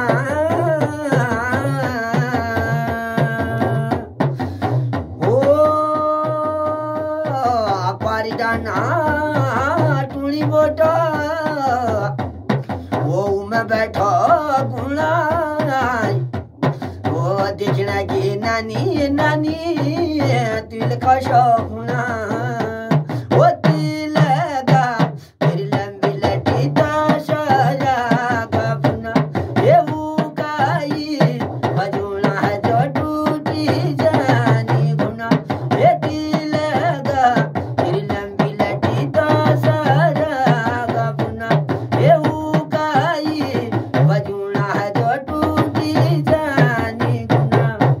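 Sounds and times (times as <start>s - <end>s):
hand drum folk rhythm: 0.0s - 48.0s
man singing folk song: 0.0s - 48.0s.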